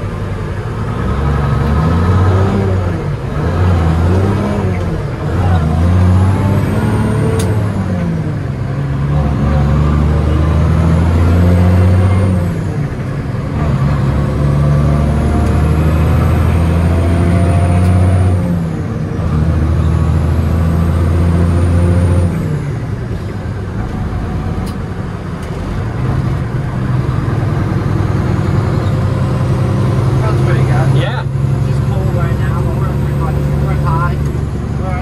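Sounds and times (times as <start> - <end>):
diesel truck engine shifting gears: 0.0 - 35.0.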